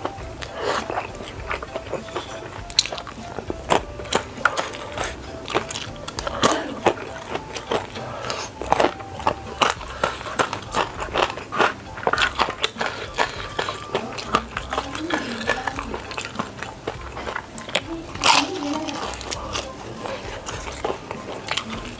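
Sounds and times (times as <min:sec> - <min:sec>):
chopsticks on wooden board: 0:00.0 - 0:21.9
wet chewing of noodles: 0:00.0 - 0:21.9.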